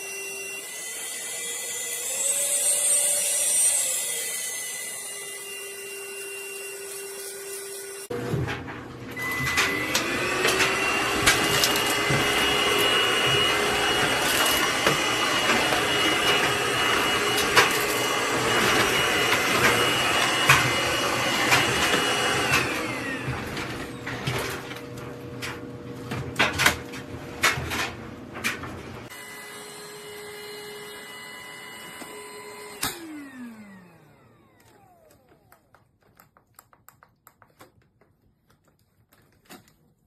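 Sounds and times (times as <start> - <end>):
stick vacuum motor whining: 0.0 - 36.2.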